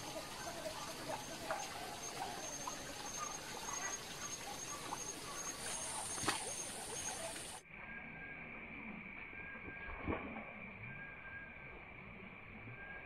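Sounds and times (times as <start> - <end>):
steady high insect drone: 0.0 - 13.0.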